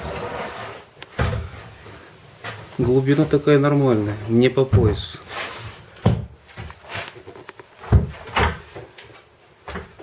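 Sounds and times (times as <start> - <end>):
wood knocking and scraping on wood: 0.0 - 10.0.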